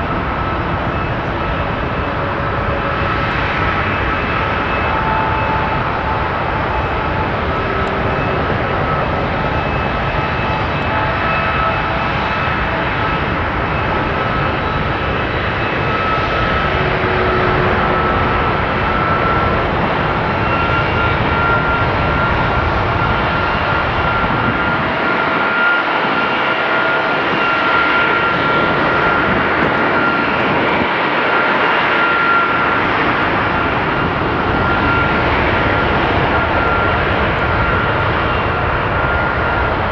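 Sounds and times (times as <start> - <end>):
jet engine roar with high whine: 0.0 - 39.9.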